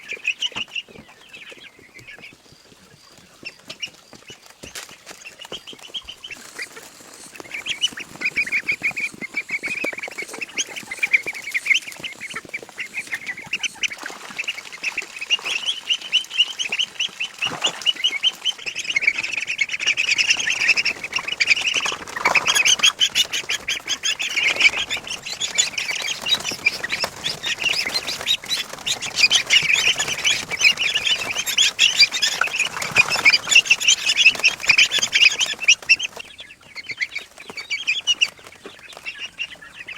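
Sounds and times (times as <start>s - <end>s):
poultry quacking and peeping: 0.0s - 39.9s.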